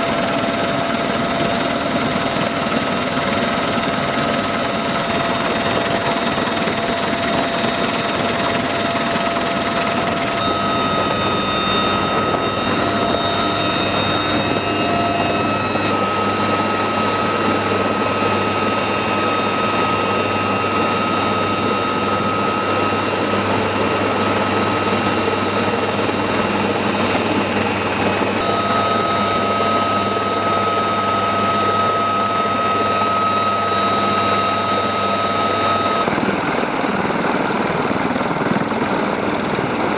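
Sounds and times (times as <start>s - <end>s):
helicopter engine and rotor noise: 0.0s - 39.9s
helicopter turbine whine: 0.0s - 39.9s.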